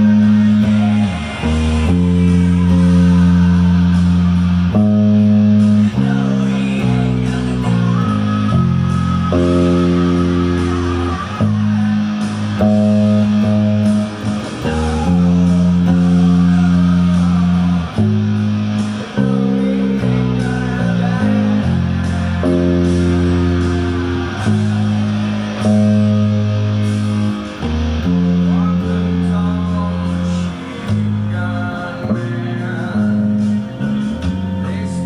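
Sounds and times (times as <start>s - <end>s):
guitar chords with bass: 0.0s - 35.0s.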